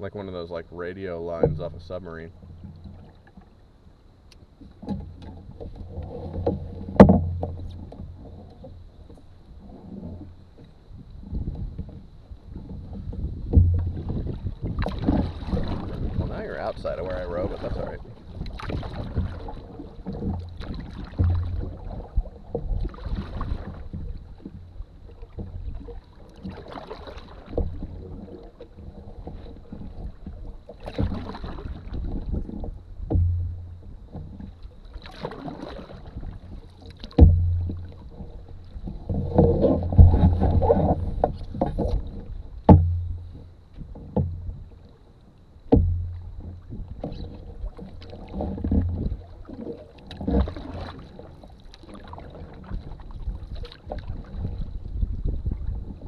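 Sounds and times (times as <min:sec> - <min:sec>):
paddle knocking against canoe: 0:00.2 - 0:03.6, 0:04.3 - 0:56.0
water swishing off paddle: 0:04.6 - 0:56.0.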